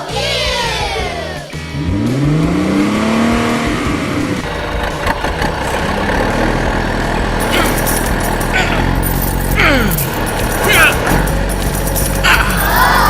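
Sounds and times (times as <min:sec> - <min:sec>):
background music: 0:00.0 - 0:13.0
vehicle engine revving: 0:01.5 - 0:13.0.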